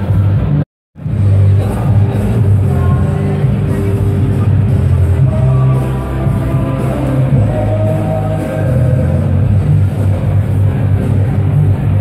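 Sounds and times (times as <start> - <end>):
music with pulsing bass: 0.0 - 12.0.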